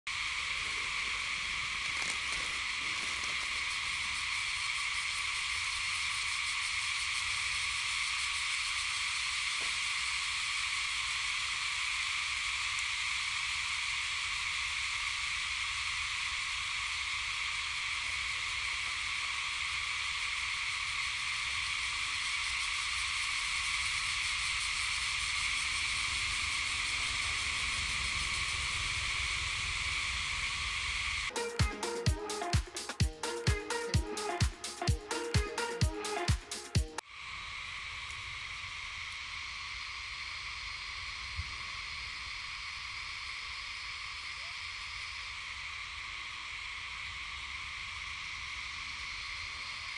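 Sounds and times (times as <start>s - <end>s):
insect chorus buzzing: 0.1s - 49.9s.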